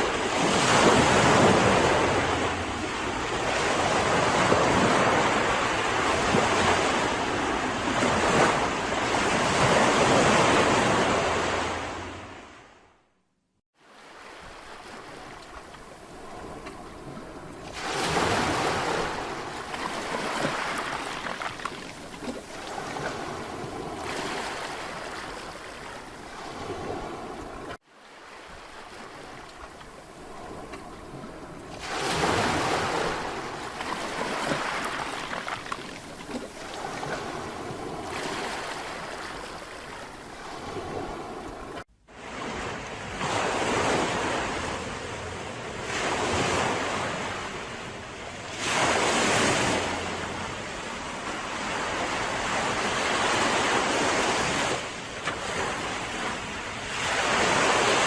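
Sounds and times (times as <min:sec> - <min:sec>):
sea waves breaking on beach: 0:00.0 - 0:12.8, 0:13.8 - 0:58.0.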